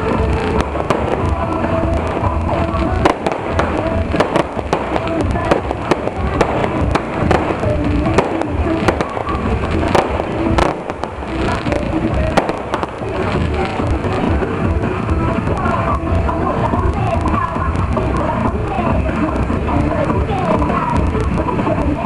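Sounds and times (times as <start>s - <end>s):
firecrackers popping: 0.0s - 22.0s
loud music: 0.0s - 22.0s.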